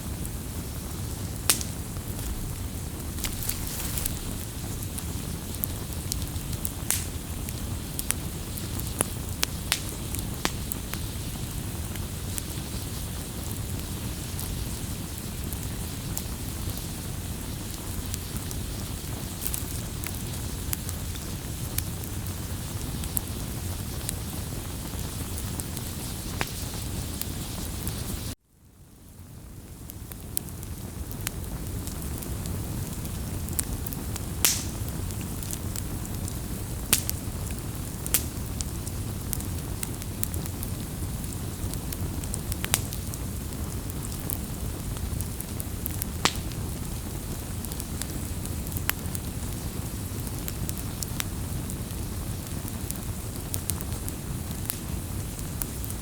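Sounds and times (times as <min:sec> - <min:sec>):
fire crackling and popping: 0:00.0 - 0:28.4, 0:29.0 - 0:56.0
low rush of flame: 0:00.0 - 0:28.4, 0:30.1 - 0:56.0.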